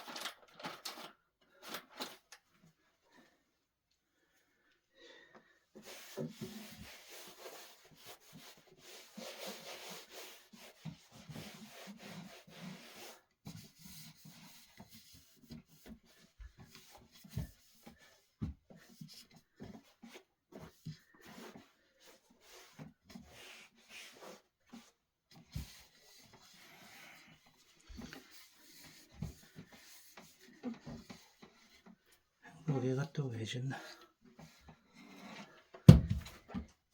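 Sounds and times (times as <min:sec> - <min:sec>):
rubbing and scraping on wood: 0:05.8 - 0:32.8, 0:34.0 - 0:36.7.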